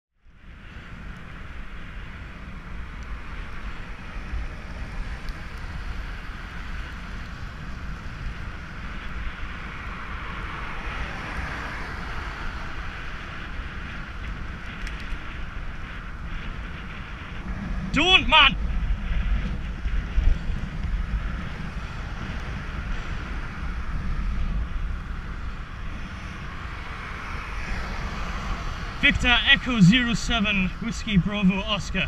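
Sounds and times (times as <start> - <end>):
wind buffeting microphone: 0.4 - 32.0.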